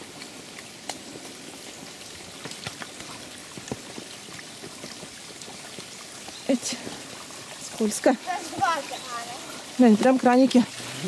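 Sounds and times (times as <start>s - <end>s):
footsteps on dirt path: 0.0s - 10.6s
water splashing from pipes: 0.0s - 11.0s.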